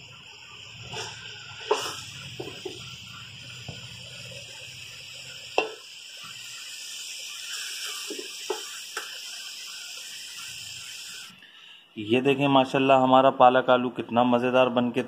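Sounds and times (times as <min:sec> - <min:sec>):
steady high hiss: 0:00.0 - 0:13.2.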